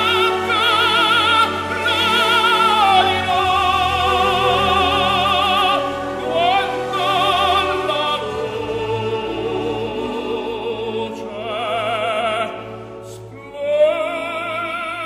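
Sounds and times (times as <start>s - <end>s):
operatic singing with orchestra: 0.0s - 15.0s.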